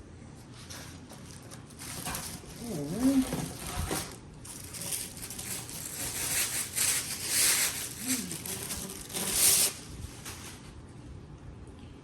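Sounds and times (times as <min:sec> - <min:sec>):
packaging rustling and tearing: 0:00.8 - 0:10.8.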